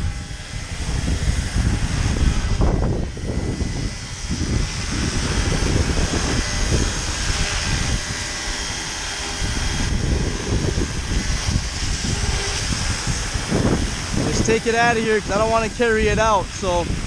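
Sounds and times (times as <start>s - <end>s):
helicopter rotor and motor whine: 0.0s - 17.0s
wind buffeting microphone: 0.0s - 17.0s.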